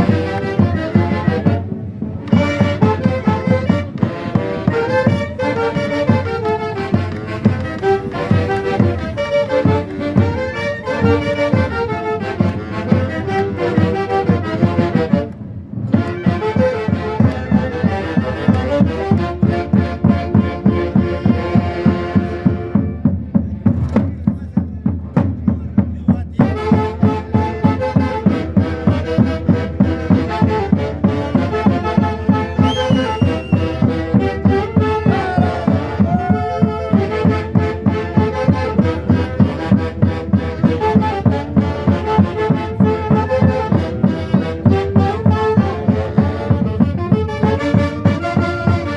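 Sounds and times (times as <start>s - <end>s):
heavy drum beat: 0.0s - 15.3s, 15.9s - 48.8s
wind instruments playing melody: 0.0s - 23.2s, 26.4s - 48.9s.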